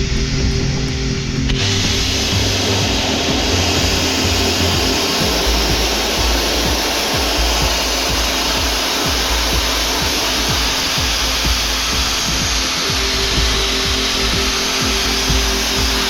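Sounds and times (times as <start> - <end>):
sandblaster rush of air and sand: 1.5 - 16.0.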